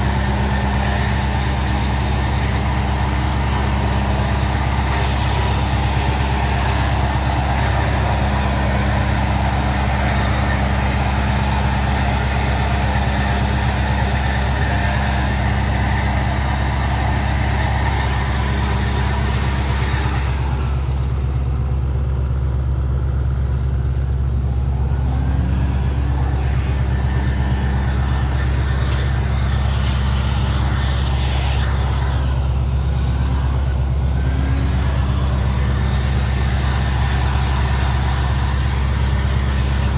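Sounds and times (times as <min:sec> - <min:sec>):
wood chipper engine humming: 0:00.0 - 0:39.9.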